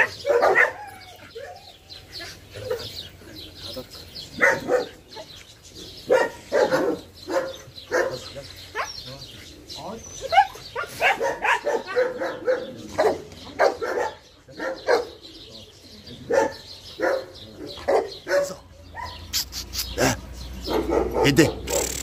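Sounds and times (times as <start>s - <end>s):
dogs barking: 0.0s - 22.0s.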